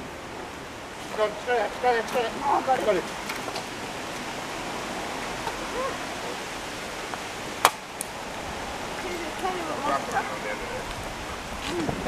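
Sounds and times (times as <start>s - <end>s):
outdoor hiss: 0.0s - 12.0s.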